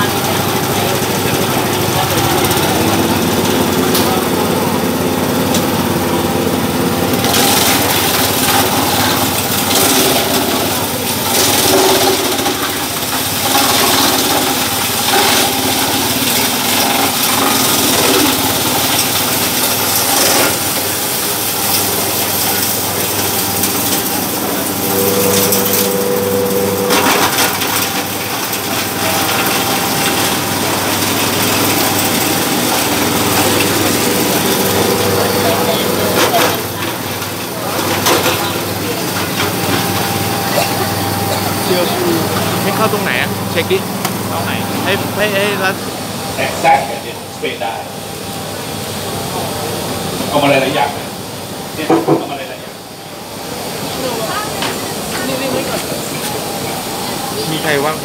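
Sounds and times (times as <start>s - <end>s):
processing machine running: 0.0s - 58.0s.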